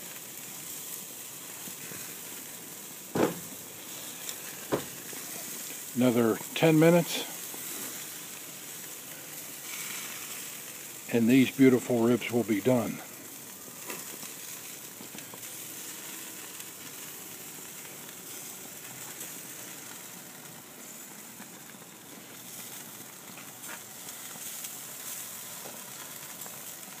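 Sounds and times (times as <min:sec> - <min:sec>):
ribs sizzling on a grill: 0:00.0 - 0:27.0.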